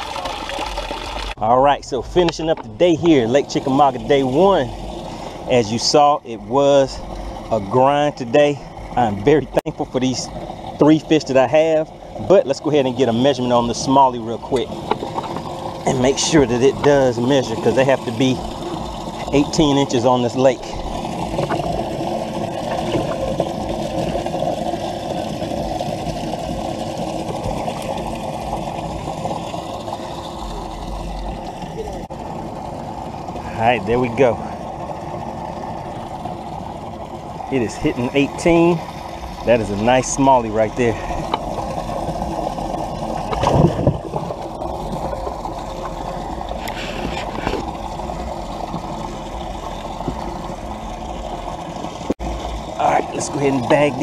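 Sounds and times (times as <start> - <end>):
pump humming: 0.0 - 54.0
running water rushing: 0.0 - 54.0.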